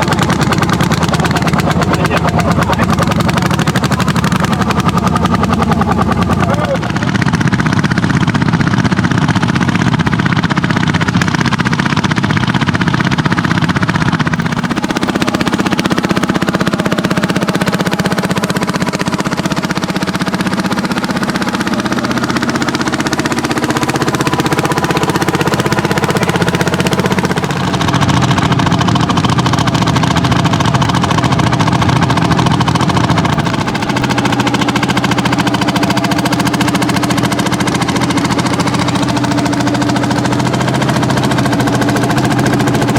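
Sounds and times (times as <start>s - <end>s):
tractor engines knocking: 0.0s - 42.9s.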